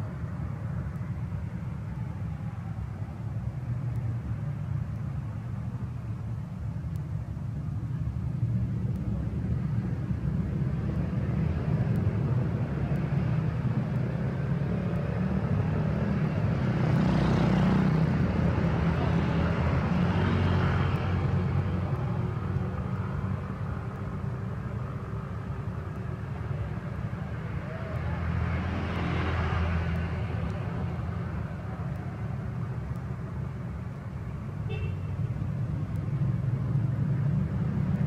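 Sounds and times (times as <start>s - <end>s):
cars and motorcycles passing: 0.0s - 38.0s.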